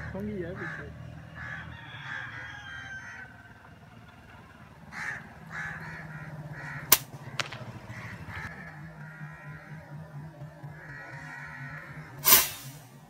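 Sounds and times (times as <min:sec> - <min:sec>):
crows cawing: 0:00.0 - 0:12.9
low steady hum: 0:00.0 - 0:13.0.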